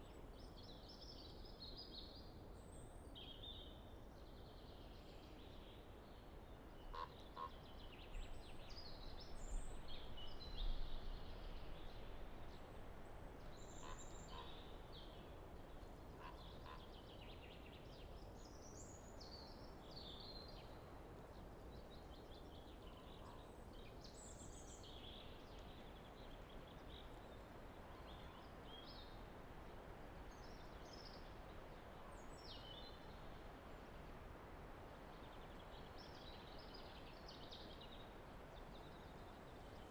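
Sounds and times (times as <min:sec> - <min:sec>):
light wind in trees: 0:00.0 - 0:39.9.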